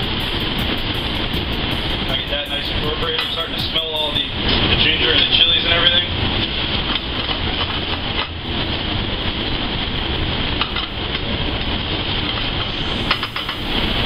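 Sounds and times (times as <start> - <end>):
low rush of burners and ventilation: 0.0 - 14.0.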